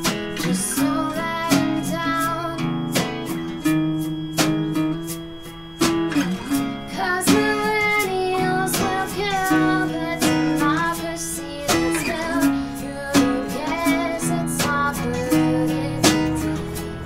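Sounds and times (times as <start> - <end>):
woman singing: 0.0 - 3.4, 6.5 - 17.0
acoustic guitars strummed: 0.0 - 17.0.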